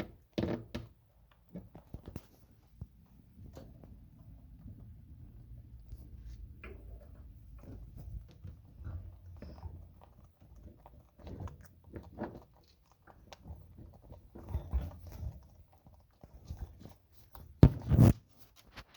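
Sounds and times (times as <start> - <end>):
animal chewing a treat: 0.0 - 18.9.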